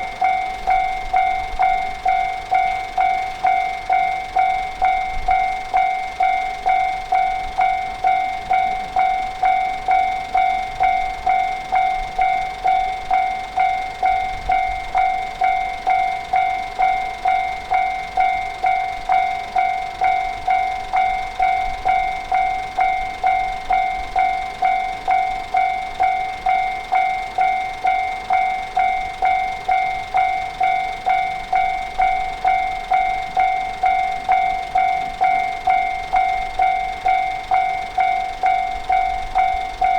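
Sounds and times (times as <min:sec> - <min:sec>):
railroad crossing bell ringing: 0:00.0 - 0:39.9.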